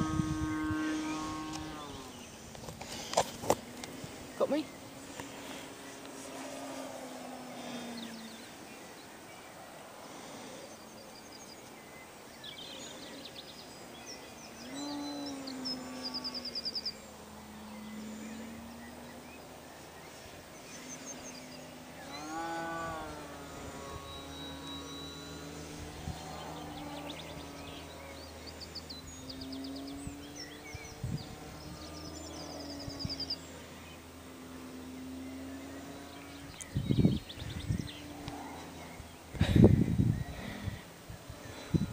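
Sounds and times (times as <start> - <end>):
model plane motor humming: 0.0 - 8.9, 14.5 - 41.9
small birds chirping: 0.0 - 41.9.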